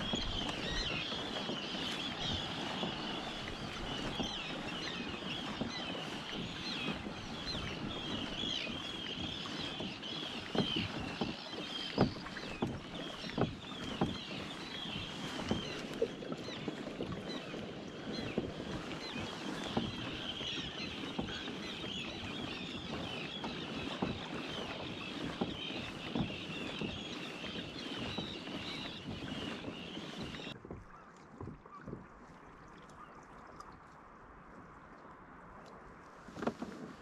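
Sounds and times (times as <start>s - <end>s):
birds chirping: 0.0s - 31.1s
water lapping against hull: 0.0s - 37.0s.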